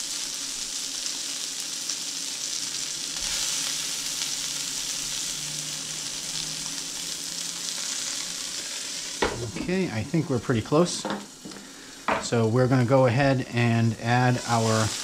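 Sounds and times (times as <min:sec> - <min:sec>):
meatballs sizzling in skillet: 0:00.0 - 0:15.0.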